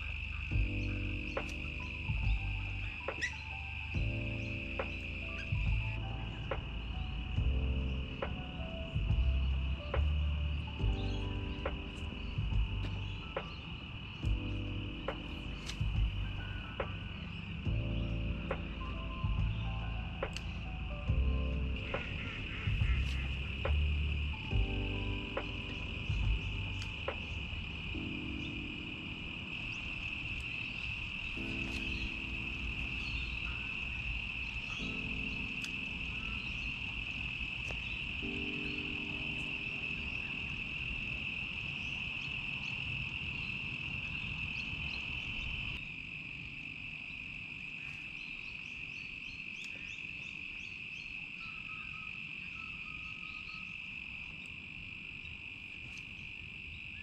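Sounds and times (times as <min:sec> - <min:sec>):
low background rumble: 0:00.0 - 0:45.8
low humming tone: 0:00.0 - 0:45.8
insects chirring: 0:00.0 - 0:57.0.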